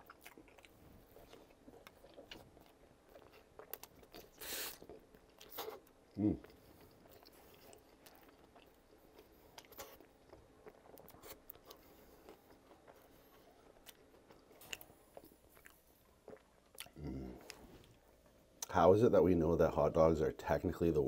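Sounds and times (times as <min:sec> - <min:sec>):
chewing crispy crumbs: 0:00.0 - 0:18.8.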